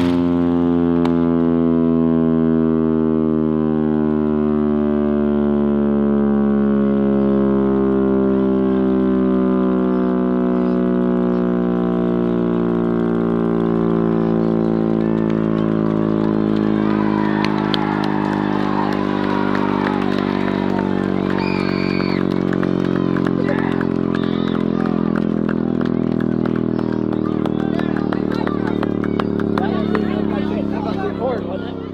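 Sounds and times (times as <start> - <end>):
air raid siren deep tone: 0.0 - 28.3
engine rumble: 0.0 - 31.9.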